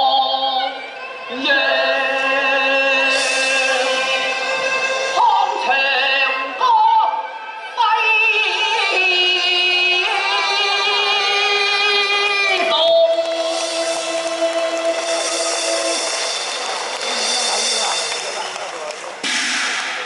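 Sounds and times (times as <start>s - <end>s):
opera singing high voice: 0.0s - 16.2s
accompanying instrumental ensemble: 0.0s - 20.0s.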